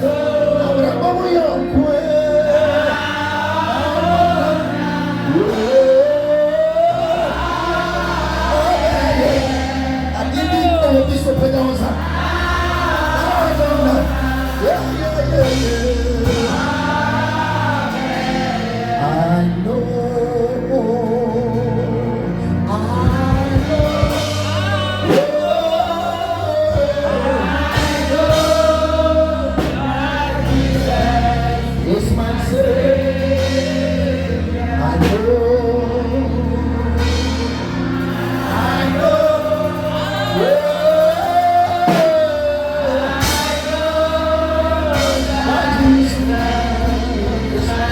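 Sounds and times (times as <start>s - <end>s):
backing choir: 0.0s - 47.9s
band with bass and beat: 0.0s - 47.9s
lead singer: 0.0s - 47.9s.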